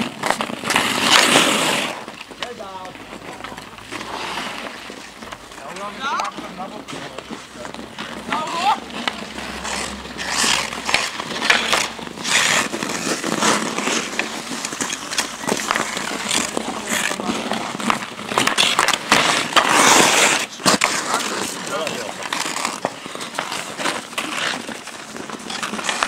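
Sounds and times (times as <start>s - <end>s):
hockey sticks knocking on ice: 0.0s - 26.0s
ice skate blades scraping ice: 0.0s - 26.0s.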